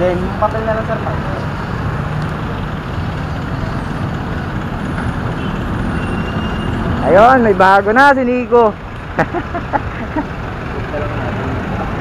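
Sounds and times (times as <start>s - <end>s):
large vehicle engine humming: 0.0s - 12.0s
roadside traffic noise: 0.0s - 12.0s.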